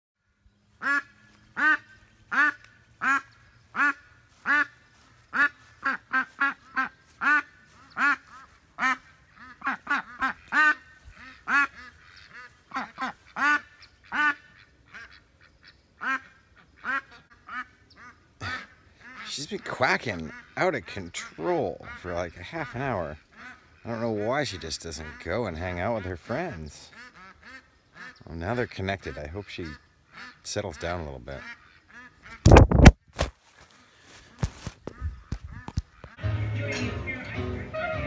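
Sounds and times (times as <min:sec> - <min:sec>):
duck quacking loudly: 0:00.8 - 0:32.9.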